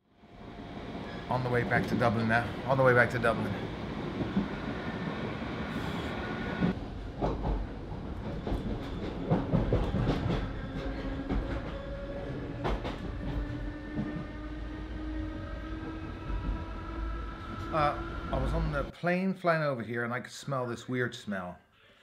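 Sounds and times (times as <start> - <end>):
train running rumble: 0.3 - 18.9.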